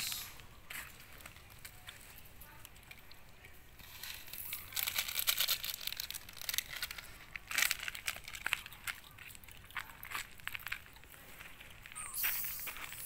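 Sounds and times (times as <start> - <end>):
dry noodles crackling: 0.0 - 13.0.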